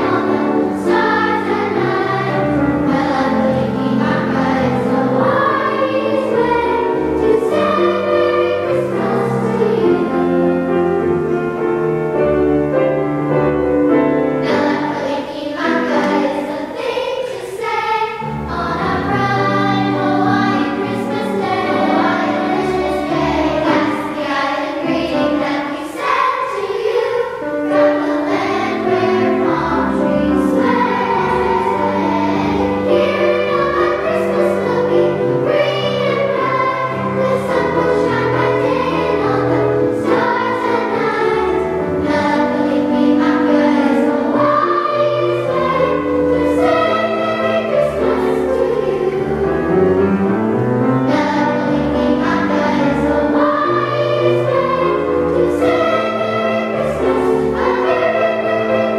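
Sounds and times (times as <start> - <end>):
girls' choir singing: 0.0 - 12.2, 12.8 - 58.9.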